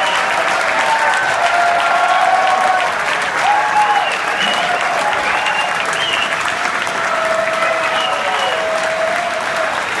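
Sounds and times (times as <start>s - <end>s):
audience applauding and cheering: 0.0s - 10.0s.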